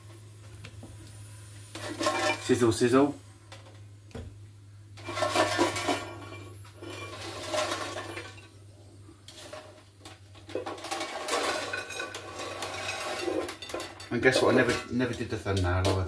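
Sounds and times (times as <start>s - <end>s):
chips sizzling and rustling: 0.0s - 2.9s, 5.0s - 16.0s
steady low hum: 0.0s - 16.0s.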